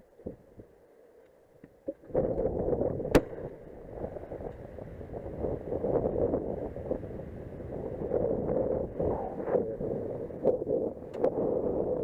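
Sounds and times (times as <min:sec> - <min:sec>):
wind noise on microphone: 0:02.0 - 0:12.0.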